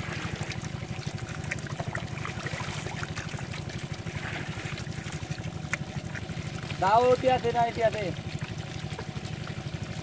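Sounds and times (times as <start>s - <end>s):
small splashes: 0.0s - 10.0s
water trickling and pouring: 0.0s - 10.0s.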